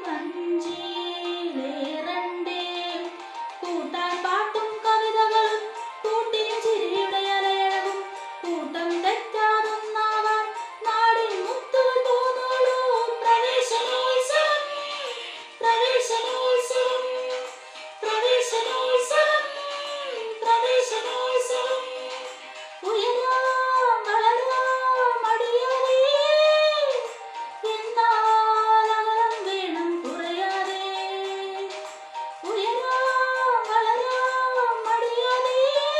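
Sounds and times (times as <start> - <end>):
girl singing: 0.0 - 35.9.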